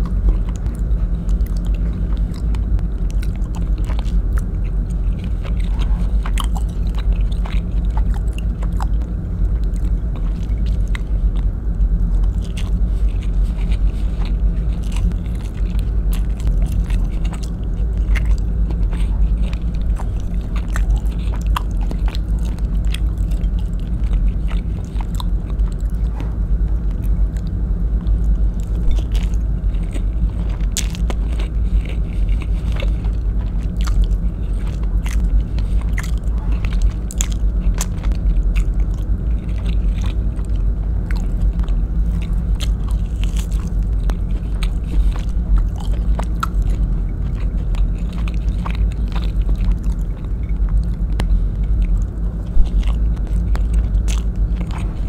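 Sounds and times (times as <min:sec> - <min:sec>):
chewing with mouth clicks: 0:00.0 - 0:55.0
steady low rumble: 0:00.0 - 0:55.0.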